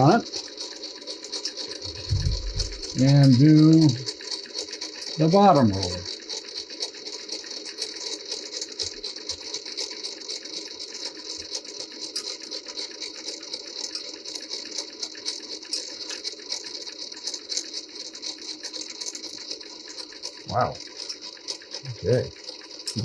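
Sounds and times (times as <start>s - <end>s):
typesetting machine rattling clatter: 0.0s - 23.0s.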